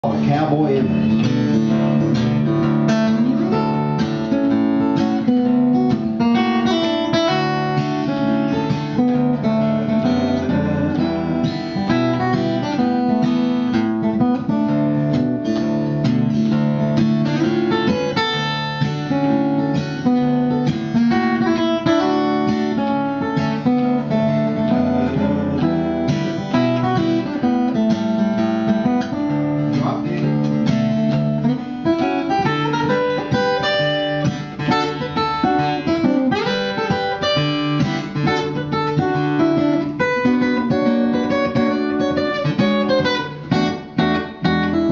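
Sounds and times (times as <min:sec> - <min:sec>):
fingerstyle acoustic guitar: 0:00.0 - 0:44.9.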